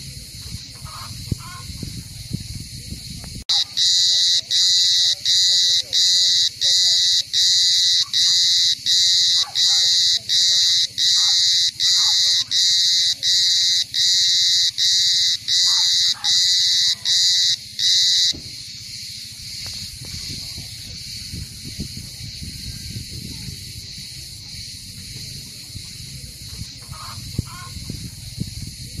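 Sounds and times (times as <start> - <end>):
cicada buzzing in pulses: 0.0 - 29.0.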